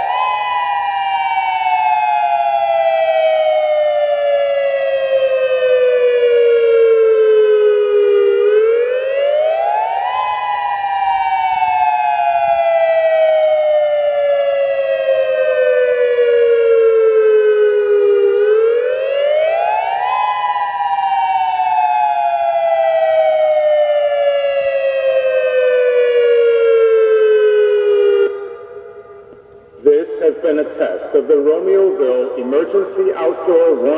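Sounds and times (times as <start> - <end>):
dual-tone warning siren wailing: 0.0 - 33.9.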